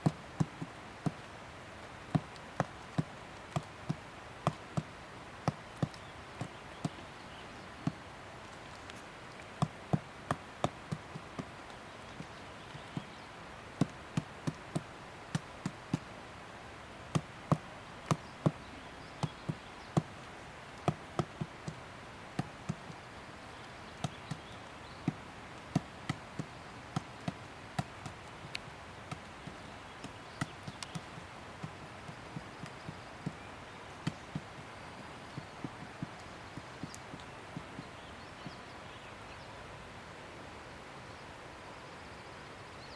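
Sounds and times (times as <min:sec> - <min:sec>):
woodpecker pecking into wood: 0:00.0 - 0:01.3, 0:02.0 - 0:08.1, 0:08.9 - 0:16.1, 0:17.0 - 0:23.1, 0:23.8 - 0:38.6.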